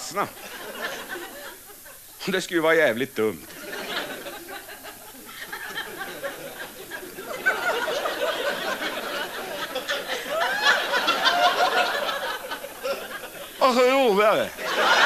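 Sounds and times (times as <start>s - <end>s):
audience laughing: 0.3s - 2.1s, 3.5s - 15.0s.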